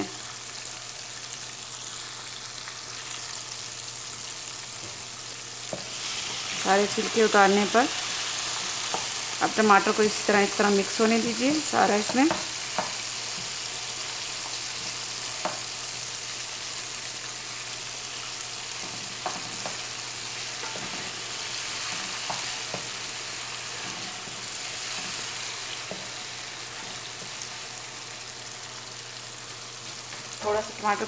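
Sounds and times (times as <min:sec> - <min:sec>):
oil sizzling: 0:00.0 - 0:31.0.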